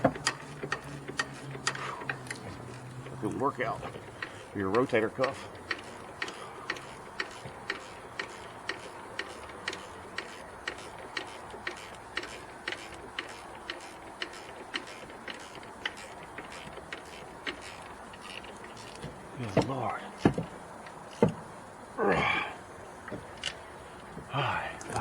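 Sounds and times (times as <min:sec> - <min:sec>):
hand ratchet clicking: 0:00.0 - 0:21.4.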